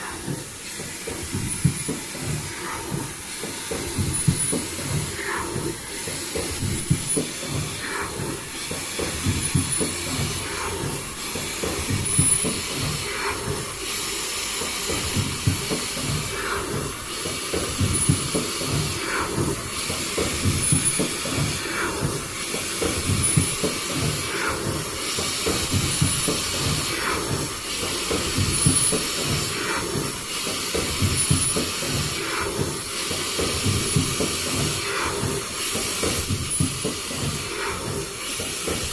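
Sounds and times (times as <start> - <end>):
machine cycling sound: 0.0 - 38.9
machine hiss and clatter: 0.0 - 38.9.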